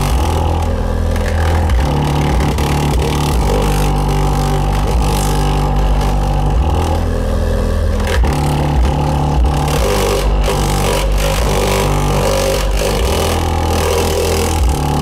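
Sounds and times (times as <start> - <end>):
bass-heavy music from subwoofer: 0.0 - 15.0.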